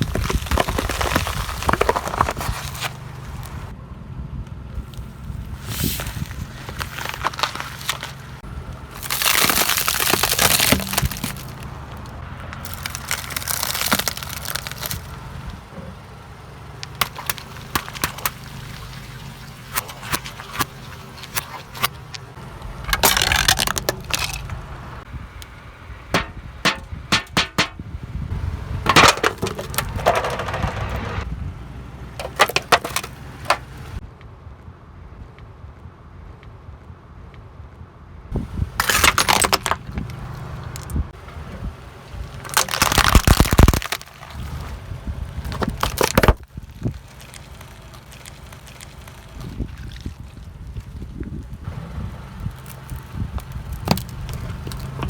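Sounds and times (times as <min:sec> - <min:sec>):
things crunching under car tyres: 0:00.0 - 0:03.8, 0:04.7 - 0:34.0, 0:38.3 - 0:55.0
car engine running low: 0:00.0 - 0:55.0.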